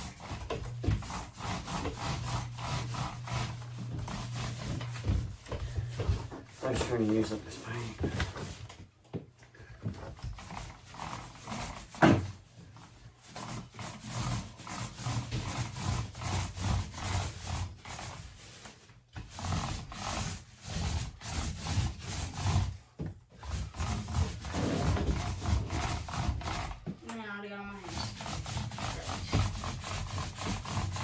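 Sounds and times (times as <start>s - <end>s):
paint roller swishing on wall: 0.0s - 31.0s.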